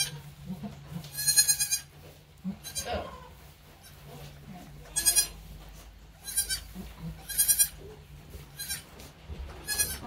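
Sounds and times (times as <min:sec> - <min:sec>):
goat kids bleating: 0:00.0 - 0:04.1, 0:04.7 - 0:10.0.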